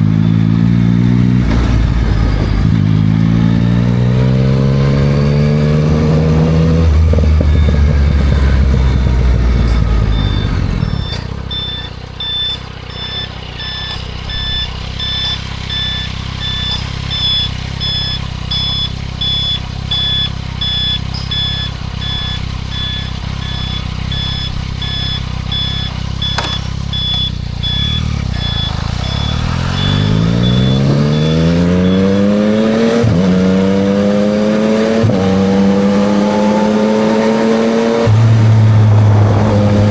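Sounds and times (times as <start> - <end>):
motorcycle engine revving: 0.0 - 39.9
electronic beeping: 5.0 - 38.0.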